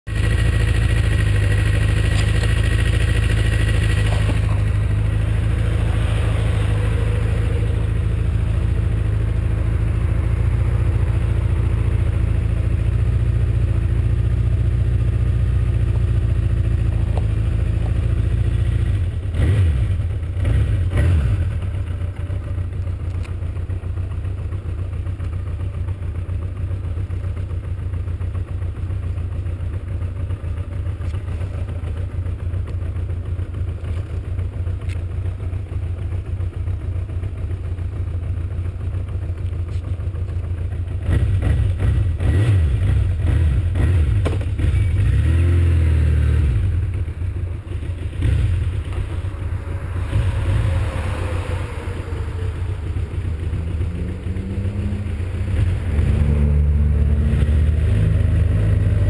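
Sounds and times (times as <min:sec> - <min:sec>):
motorcycle engine idling: 0:00.1 - 0:59.0.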